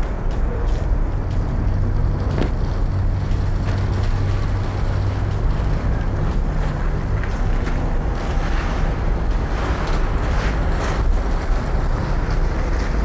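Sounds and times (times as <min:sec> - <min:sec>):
car engine running at low speed: 0:00.0 - 0:13.0
wind rumbling on microphone: 0:00.0 - 0:13.0.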